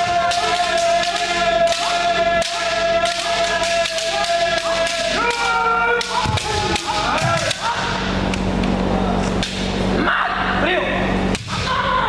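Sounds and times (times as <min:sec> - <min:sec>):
people shouting: 0:00.0 - 0:08.2, 0:08.9 - 0:12.0.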